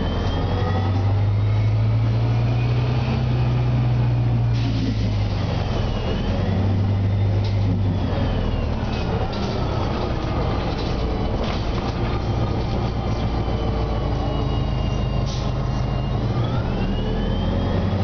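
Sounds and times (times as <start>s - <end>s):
bus engine humming: 0.0s - 18.0s.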